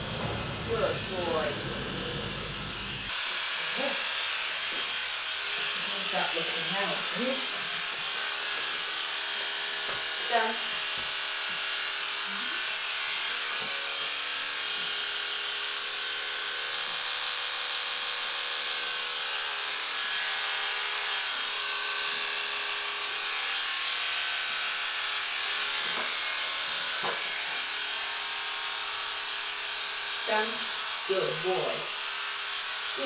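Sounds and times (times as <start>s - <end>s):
electric clippers buzzing: 0.0s - 33.0s.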